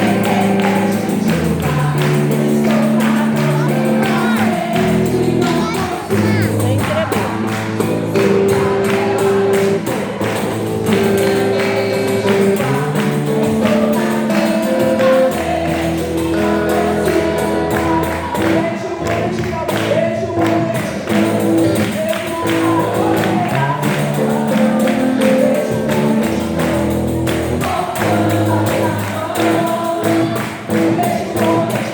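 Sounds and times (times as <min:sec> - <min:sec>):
tambourine: 0:00.0 - 0:18.6, 0:21.1 - 0:31.9
gospel music with steady beat: 0:00.0 - 0:31.9
singing: 0:00.0 - 0:31.9.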